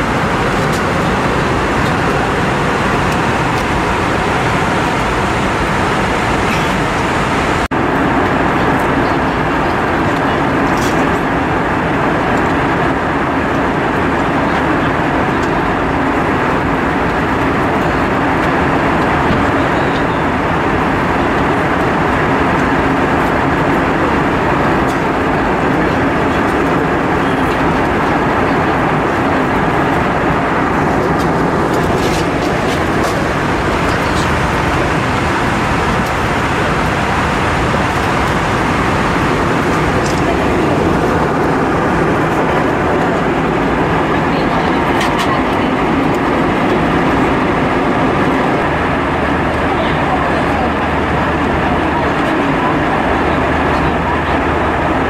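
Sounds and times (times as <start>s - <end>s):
jet engine and air rush in cabin: 0.0s - 55.0s.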